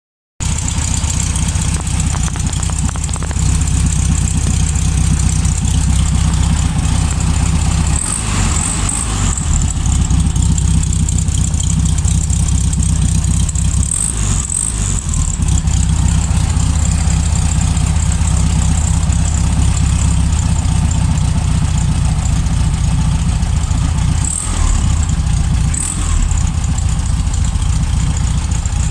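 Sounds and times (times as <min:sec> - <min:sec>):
car engine idling: 0:00.4 - 0:28.9.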